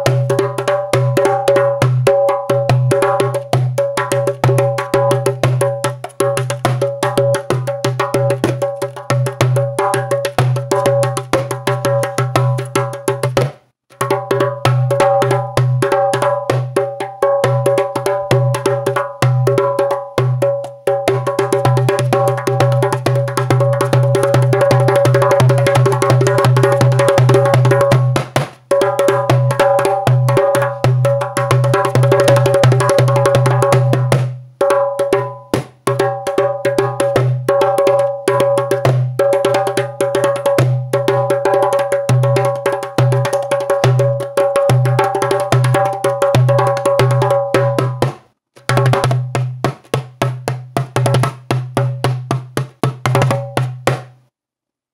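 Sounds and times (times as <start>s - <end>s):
hand drums playing fast rolls: 0.0s - 54.2s.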